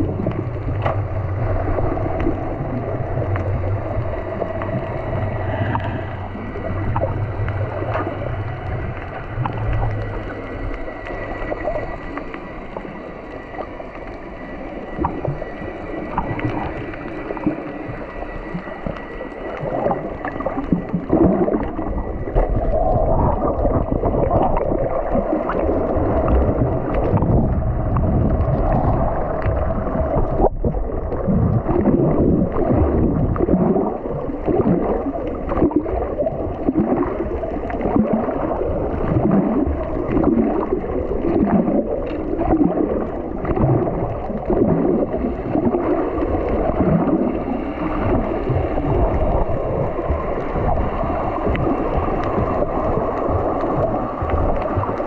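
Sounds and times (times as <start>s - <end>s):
underwater water gurgling: 0.0s - 55.0s.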